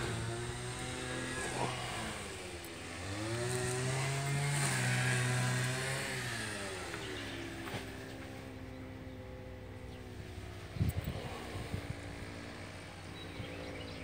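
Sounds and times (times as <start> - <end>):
tractor diesel engine revving: 0.0 - 14.0.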